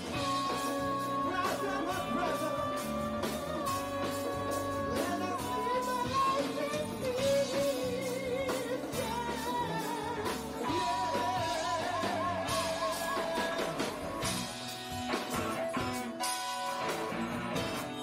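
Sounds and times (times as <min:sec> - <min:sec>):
man singing with vibrato: 0:00.0 - 0:14.5
live rock band playing: 0:00.0 - 0:18.0.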